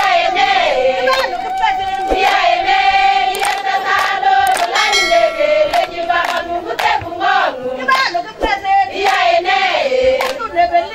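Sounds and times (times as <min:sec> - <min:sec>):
group of people singing: 0:00.0 - 0:10.9.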